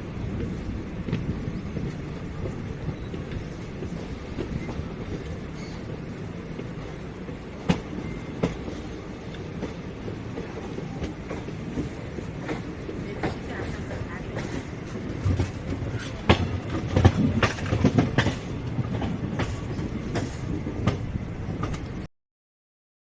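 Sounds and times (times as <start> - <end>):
sharp train clacks: 0.0 - 22.1
train rolling along track: 0.0 - 22.1
wheels clicking over rail joints: 0.4 - 22.0.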